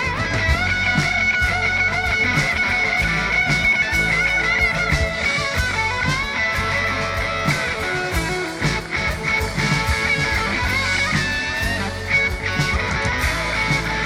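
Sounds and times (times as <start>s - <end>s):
lead guitar bending notes: 0.0s - 14.0s
steady drum beat: 0.0s - 14.0s
strummed guitar chords: 0.0s - 14.0s.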